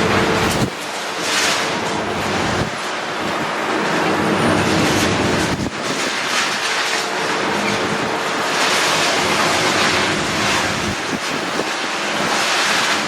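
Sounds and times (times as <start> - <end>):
demolition machine engine hum: 0.0 - 13.0
loud machinery rattling: 0.0 - 13.0.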